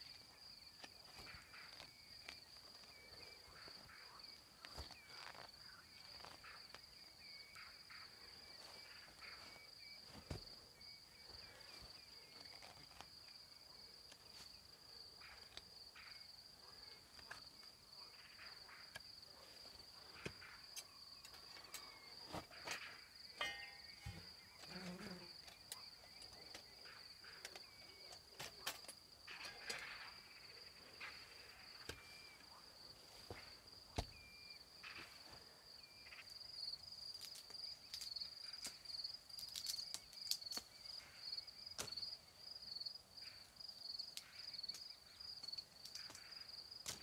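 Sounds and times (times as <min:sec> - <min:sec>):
crickets trilling: 0:00.0 - 0:47.0.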